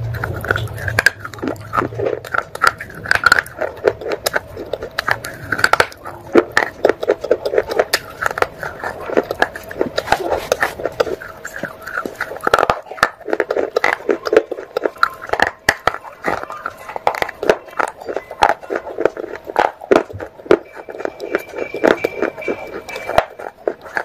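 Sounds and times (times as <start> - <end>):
clay pot being chewed crunchily: 0.0 - 24.0.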